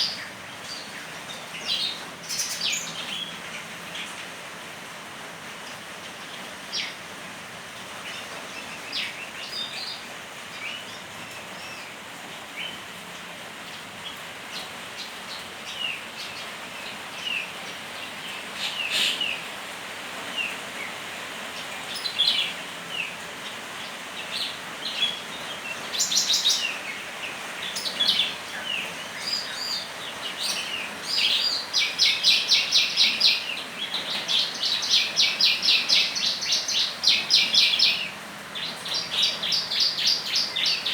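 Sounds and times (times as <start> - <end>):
rain hissing: 0.0 - 40.9
songbirds chirping: 0.0 - 40.9.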